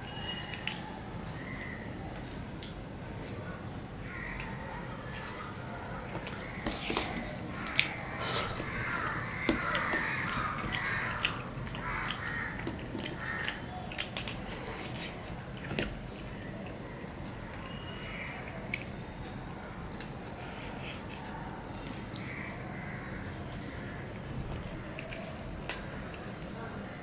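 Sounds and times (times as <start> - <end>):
fingers squishing rice and curry: 4.0 - 27.0.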